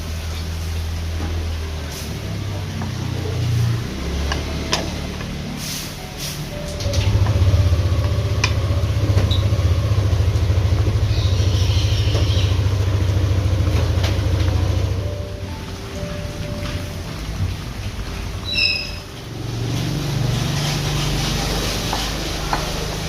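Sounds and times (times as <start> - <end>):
pulsing motor rumble: 0.0 - 18.5, 19.1 - 23.0.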